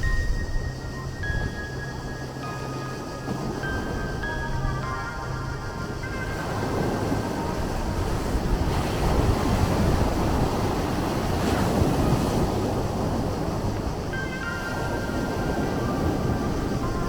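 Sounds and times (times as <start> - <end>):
faint steady tones: 0.0 - 17.0
sea waves washing: 0.0 - 17.0.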